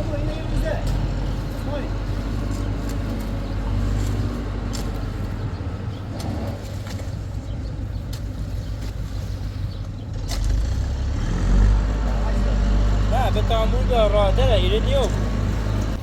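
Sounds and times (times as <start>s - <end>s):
engine running low: 0.0s - 16.0s.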